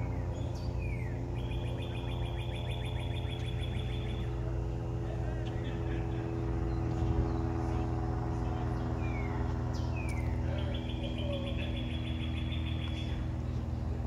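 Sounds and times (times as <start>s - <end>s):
low machine hum: 0.0s - 14.0s
small birds chirping and trilling: 0.0s - 14.0s.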